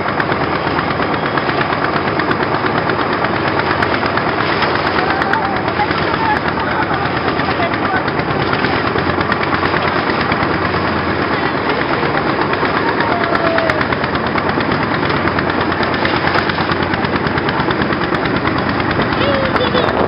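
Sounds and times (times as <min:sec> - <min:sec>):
motorboat engine running: 0:00.0 - 0:20.0.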